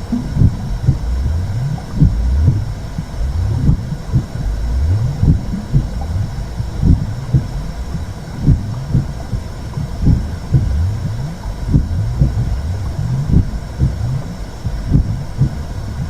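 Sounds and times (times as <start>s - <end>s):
low whooshing rumble: 0.0s - 16.0s
muffled heartbeat: 0.0s - 16.0s.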